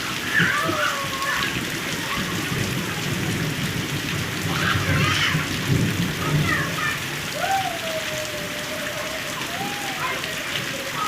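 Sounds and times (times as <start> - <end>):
heavy rain drumming: 0.0 - 11.0.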